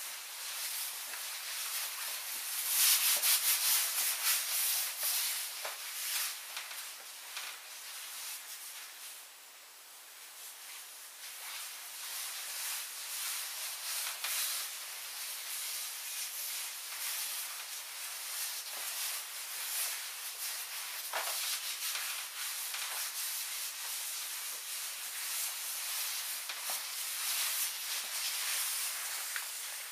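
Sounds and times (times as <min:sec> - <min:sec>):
taffeta fabric rustling: 0:00.0 - 0:09.3, 0:10.0 - 0:29.9.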